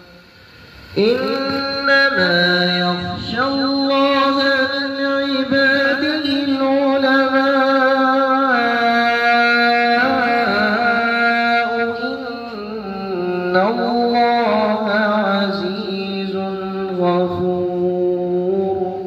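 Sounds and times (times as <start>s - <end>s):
man chanting recitation: 0.9s - 19.0s.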